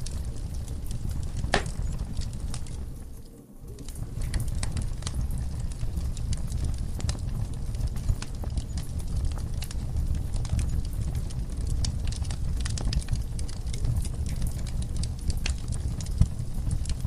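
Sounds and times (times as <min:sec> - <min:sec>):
fire rumbling: 0:00.0 - 0:17.0
wood fire crackling and popping: 0:00.0 - 0:17.0.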